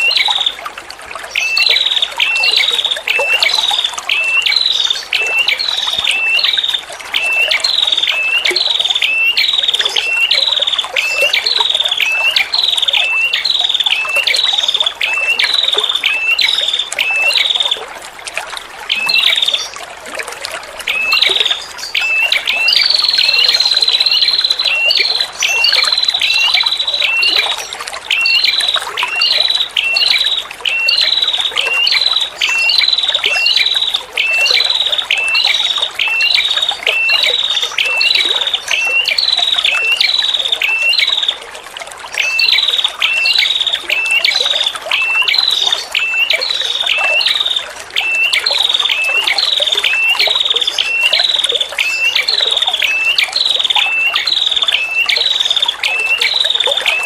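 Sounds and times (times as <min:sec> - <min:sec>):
trickling water: 0:00.0 - 0:57.0
songbird chirping: 0:01.2 - 0:17.8, 0:18.9 - 0:19.9, 0:20.7 - 0:57.0.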